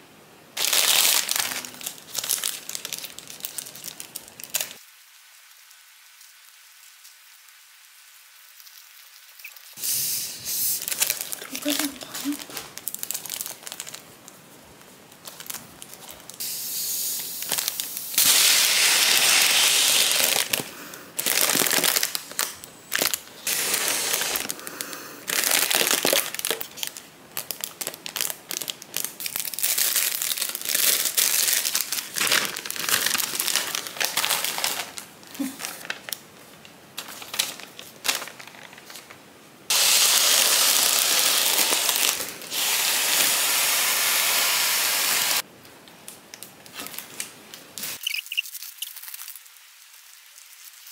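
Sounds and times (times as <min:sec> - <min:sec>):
foil crinkling: 0:00.6 - 0:09.9, 0:10.5 - 0:16.5, 0:17.2 - 0:43.4, 0:46.3 - 0:50.9.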